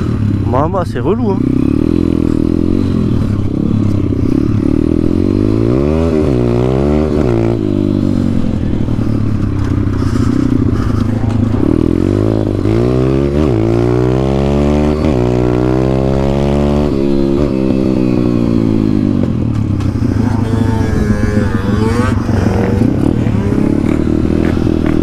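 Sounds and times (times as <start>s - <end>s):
dirt bike engine accelerating: 0.0s - 25.0s.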